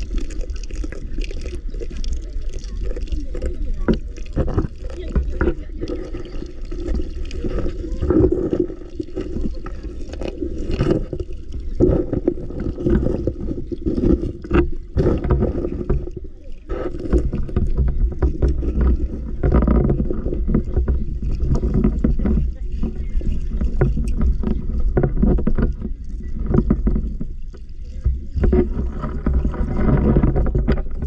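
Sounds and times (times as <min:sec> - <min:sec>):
muffled underwater river rushing: 0:00.0 - 0:31.0.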